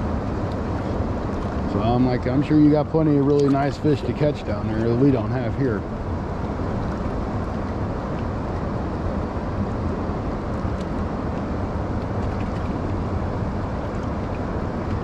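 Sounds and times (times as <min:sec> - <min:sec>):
fast-moving water rushing: 0:00.0 - 0:15.0.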